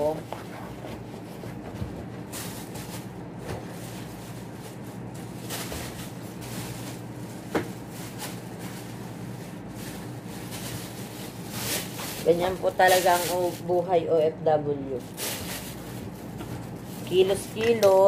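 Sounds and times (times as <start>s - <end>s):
cloth and bedding rustling: 0.0s - 14.0s, 15.0s - 18.0s
steady low hum: 0.0s - 18.0s.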